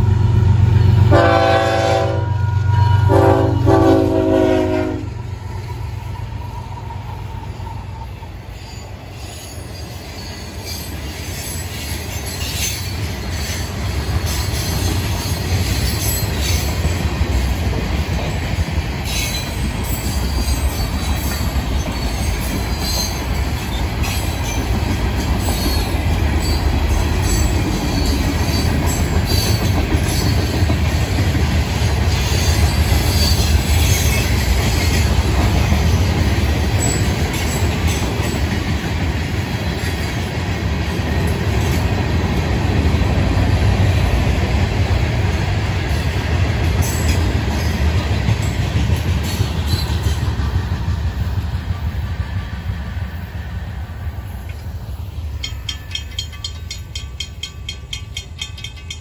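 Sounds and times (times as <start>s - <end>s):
rail clacks: 0.0s - 59.0s
train wheels rumbling on rail: 0.0s - 59.0s.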